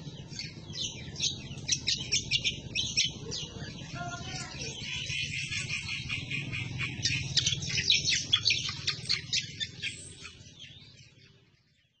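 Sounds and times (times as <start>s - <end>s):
bird singing fast chattering song: 0.0s - 12.0s.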